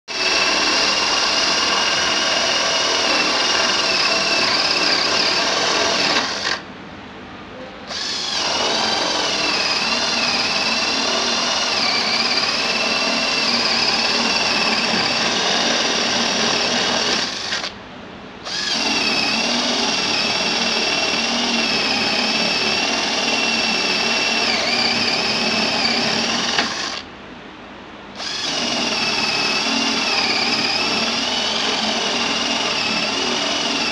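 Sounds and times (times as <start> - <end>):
cordless drill boring into wood: 0.1 - 6.6, 7.9 - 17.8, 18.4 - 27.0, 28.2 - 33.9.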